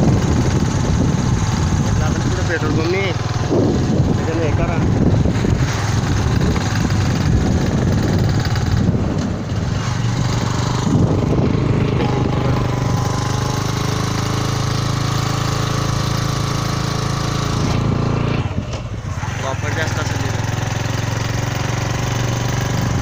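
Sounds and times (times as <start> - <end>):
wind rumbling on microphone: 0.0 - 19.4
motorcycle engine running: 0.0 - 23.0.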